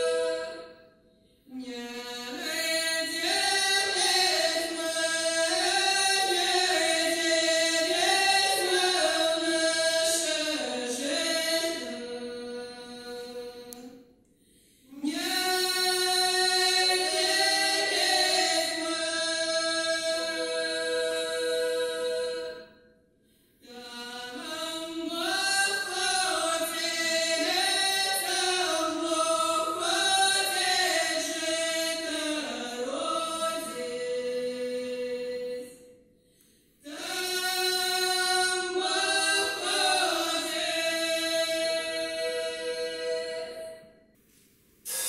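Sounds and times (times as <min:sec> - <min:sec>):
voices singing in harmony: 0:00.0 - 0:00.8, 0:01.5 - 0:14.0, 0:14.9 - 0:22.7, 0:23.6 - 0:35.8, 0:36.8 - 0:43.9.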